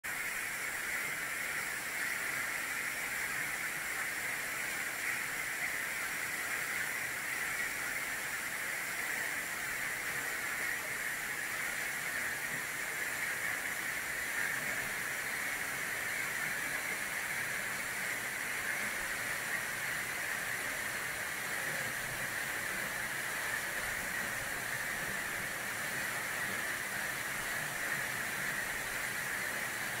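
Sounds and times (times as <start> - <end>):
waterfall splashing into pool: 0.1 - 30.0.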